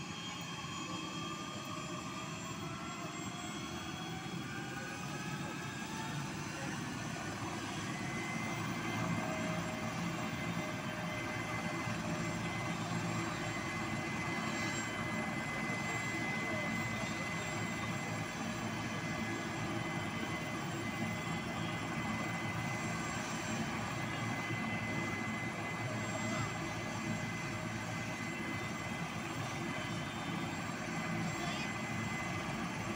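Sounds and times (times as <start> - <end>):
helicopter turbine engine running: 0.0 - 32.9.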